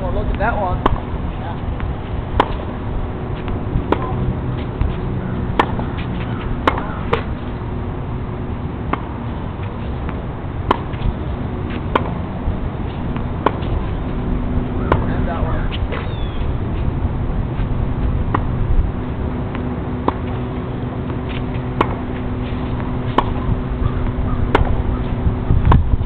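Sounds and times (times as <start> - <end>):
tennis balls bouncing on court: 0.0 - 16.9, 17.5 - 25.9
tennis balls struck by rackets: 0.1 - 17.0, 17.6 - 25.9.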